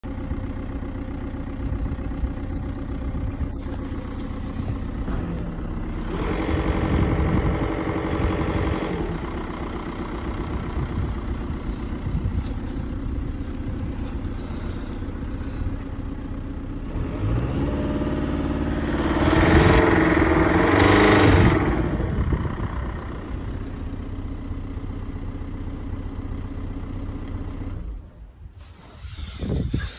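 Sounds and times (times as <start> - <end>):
diesel engine idling and revving: 0.0 - 29.9
strange engine noise: 0.0 - 29.9.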